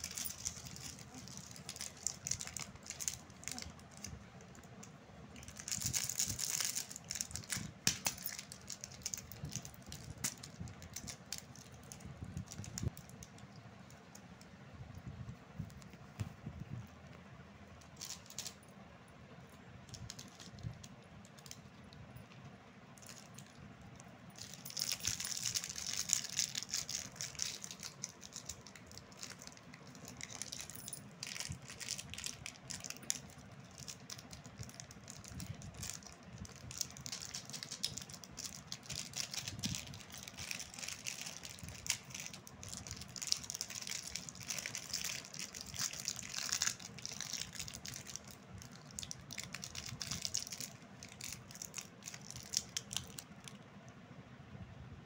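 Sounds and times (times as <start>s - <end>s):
plastic wrappers crinkling: 0.0s - 13.4s, 17.9s - 18.6s, 19.8s - 21.7s, 24.4s - 53.6s.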